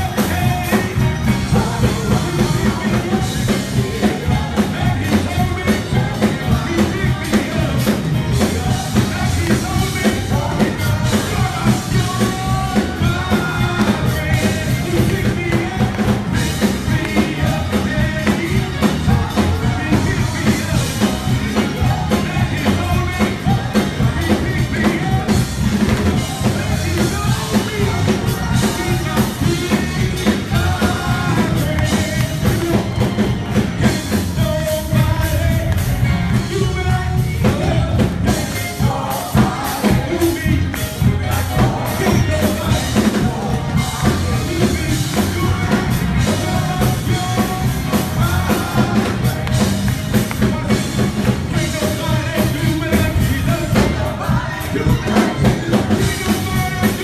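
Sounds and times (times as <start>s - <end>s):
band playing praise music: 0.0s - 57.0s
drum kit beat: 0.0s - 57.0s
voices singing: 0.0s - 57.0s.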